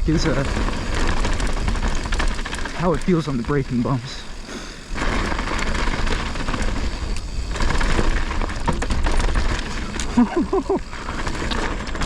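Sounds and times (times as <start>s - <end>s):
heavy bike rumble: 0.0s - 12.0s
bike clattering and knocking: 0.1s - 12.0s.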